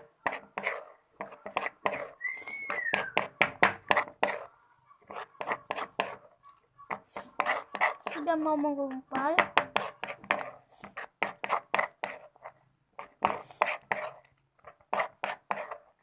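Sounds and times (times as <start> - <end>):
stirrer scraping in container: 0.2 - 16.0.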